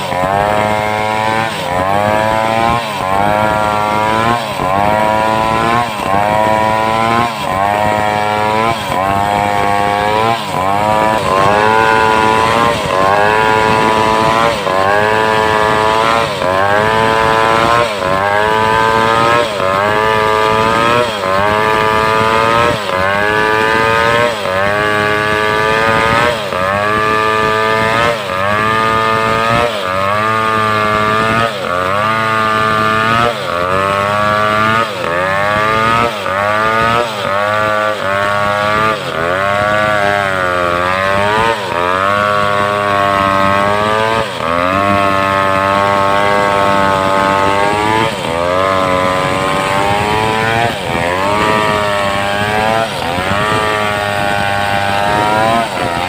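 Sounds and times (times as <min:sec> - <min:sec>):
chainsaw cutting a log: 0:00.0 - 0:56.0.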